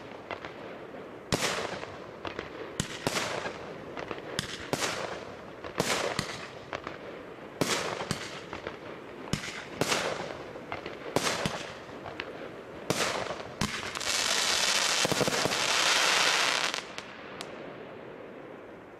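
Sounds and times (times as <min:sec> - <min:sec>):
firework crackling: 0:00.0 - 0:18.1
firework bangs: 0:01.3 - 0:17.6.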